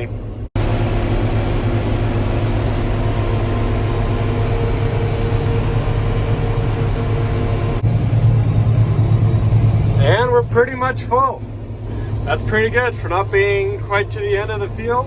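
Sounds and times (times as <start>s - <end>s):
harvester machine hum: 0.0s - 15.0s
heavy engine drone: 0.0s - 15.0s.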